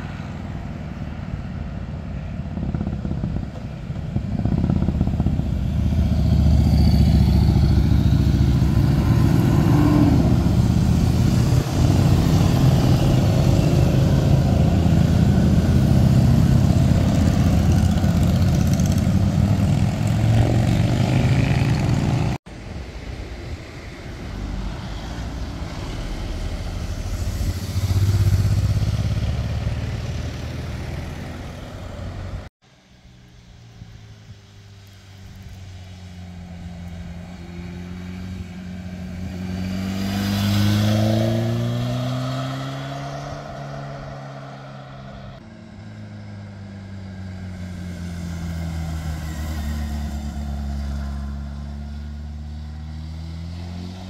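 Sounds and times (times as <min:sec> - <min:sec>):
motorcycles accelerating past: 0:02.6 - 0:22.4, 0:24.5 - 0:32.5, 0:35.4 - 0:54.0.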